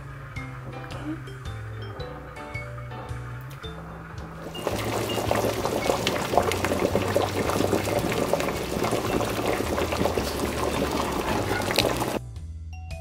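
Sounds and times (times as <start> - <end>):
water boiling and bubbling: 0.0 - 12.2.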